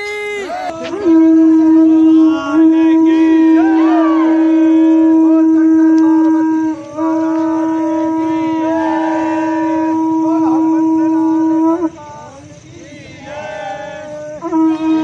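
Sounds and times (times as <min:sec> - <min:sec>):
conch shell blown: 0:00.0 - 0:15.0
voices: 0:00.0 - 0:15.0.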